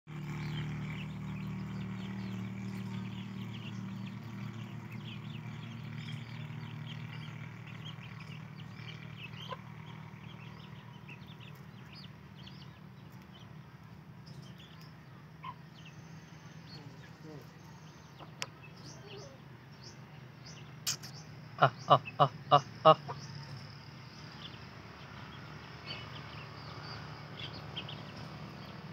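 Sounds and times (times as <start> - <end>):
steady low hum: 0.1 - 28.9
chicks cheeping: 0.2 - 28.9.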